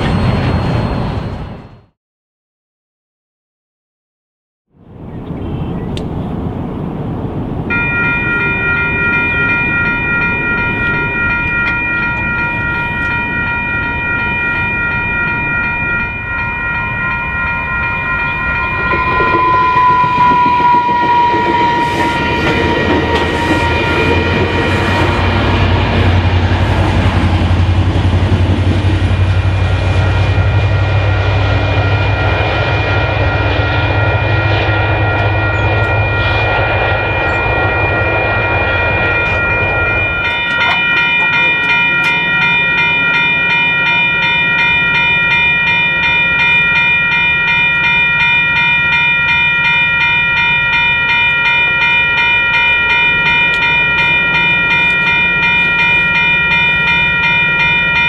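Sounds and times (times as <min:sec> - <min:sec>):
railroad crossing bell ringing: 0:00.0 - 0:02.0, 0:06.8 - 0:58.0
diesel locomotive rumble: 0:04.8 - 0:58.0.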